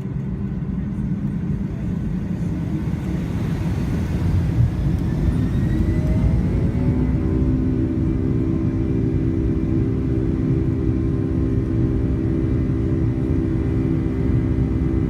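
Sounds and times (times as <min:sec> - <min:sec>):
jet engines inside cabin: 0:00.0 - 0:15.0.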